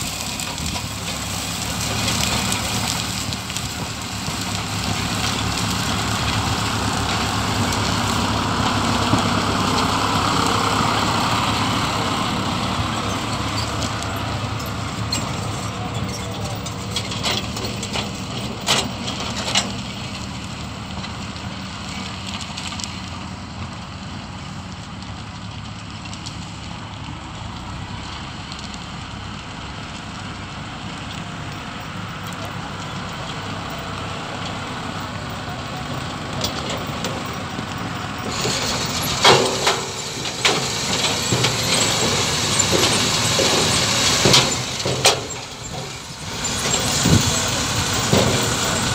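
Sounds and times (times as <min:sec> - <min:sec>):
tractor and harvester engines running: 0:00.0 - 0:48.9.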